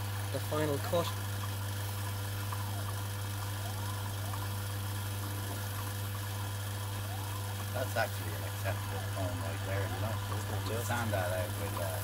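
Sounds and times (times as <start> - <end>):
lathe motor hum: 1.2 - 12.0.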